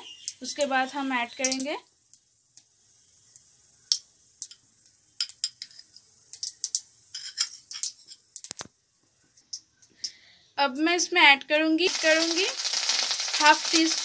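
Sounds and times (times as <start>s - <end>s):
seeds crackling in hot oil: 0.0s - 14.0s.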